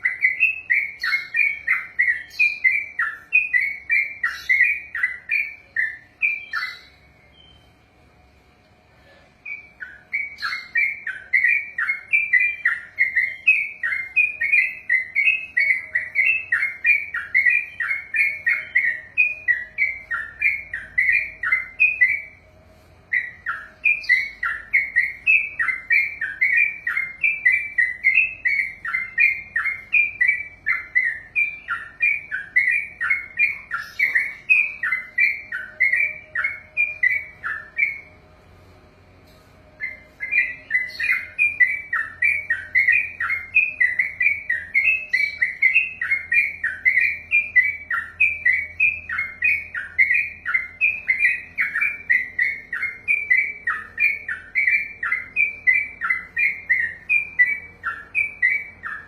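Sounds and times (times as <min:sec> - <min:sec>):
bird singing whistled notes: 0:00.0 - 0:07.8, 0:09.4 - 0:22.5, 0:23.1 - 0:38.2, 0:39.7 - 0:59.0.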